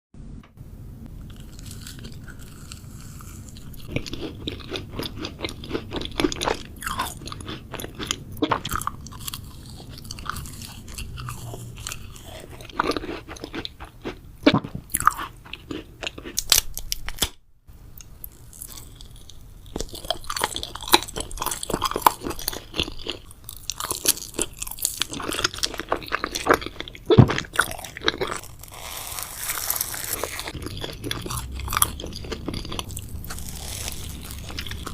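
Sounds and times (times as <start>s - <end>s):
crunching and chewing sweets: 1.2s - 17.4s, 18.0s - 34.9s.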